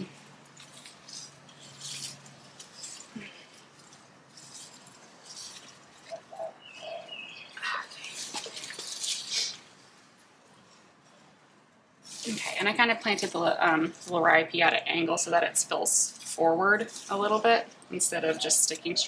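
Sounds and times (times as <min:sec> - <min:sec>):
hands rustling potting soil: 0:00.0 - 0:19.0.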